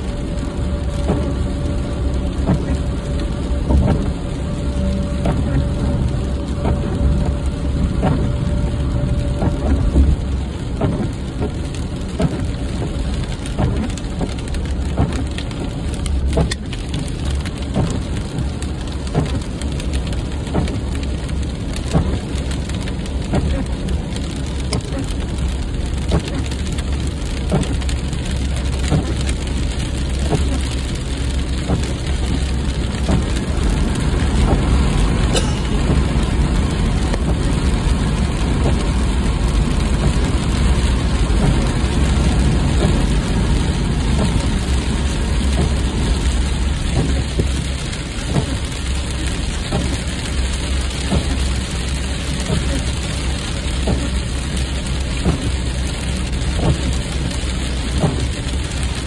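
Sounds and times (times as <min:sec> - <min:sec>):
rain on car windshield: 0:00.0 - 0:59.0
road and engine rumble: 0:00.0 - 0:59.0.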